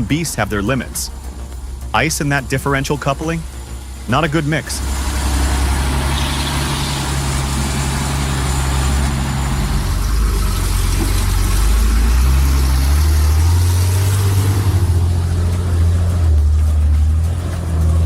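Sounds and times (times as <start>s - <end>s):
heavy truck diesel engine revving: 0.0s - 18.0s.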